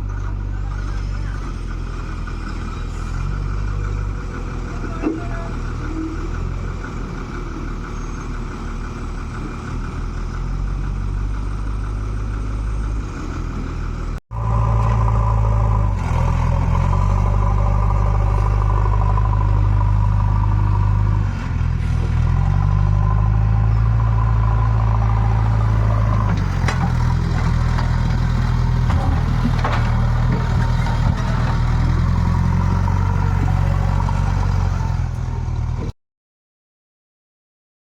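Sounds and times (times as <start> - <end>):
diesel engine under load: 0.0 - 36.0.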